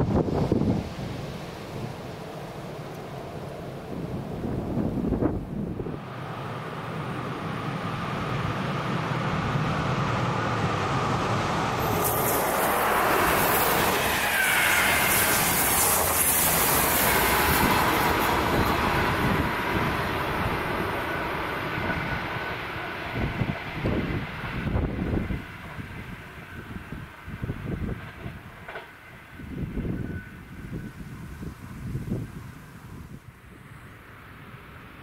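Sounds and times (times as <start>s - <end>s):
train wheels rolling on rail: 0.0s - 33.0s.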